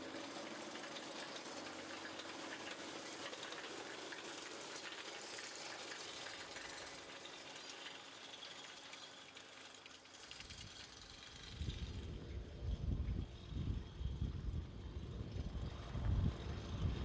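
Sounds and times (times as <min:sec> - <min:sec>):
faint tractor engine hum: 0:00.0 - 0:17.0.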